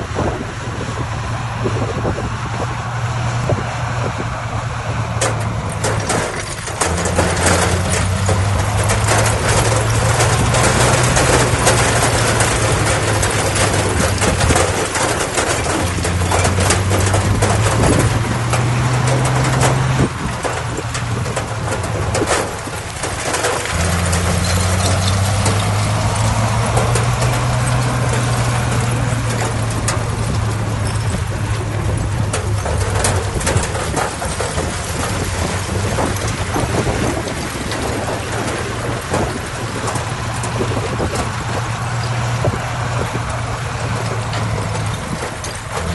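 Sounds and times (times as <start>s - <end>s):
diesel engine under load: 0.0s - 45.9s
machine clatter and rumble: 0.0s - 45.9s.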